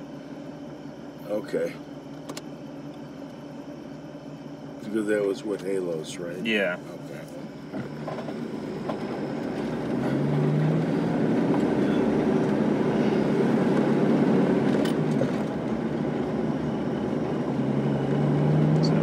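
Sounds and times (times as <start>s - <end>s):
car engine from inside: 0.0s - 19.0s
road noise: 0.0s - 19.0s.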